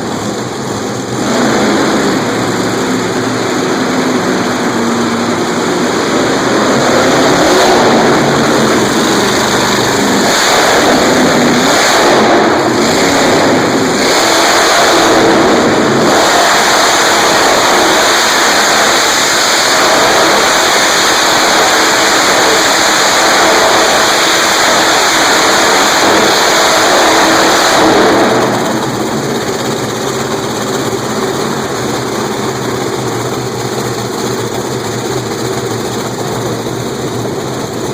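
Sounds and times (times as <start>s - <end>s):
monster truck engine revving: 0.0s - 37.9s.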